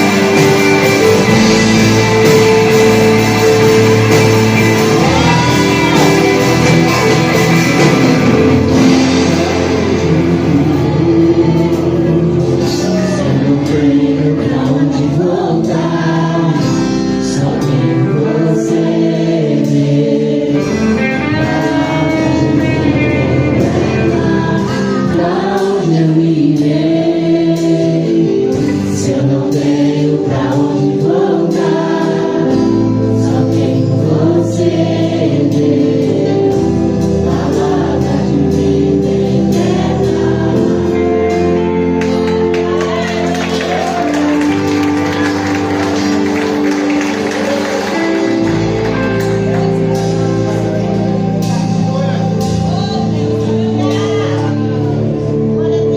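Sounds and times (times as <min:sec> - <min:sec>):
band playing: 0:00.0 - 0:55.9
choir singing: 0:00.0 - 0:55.9.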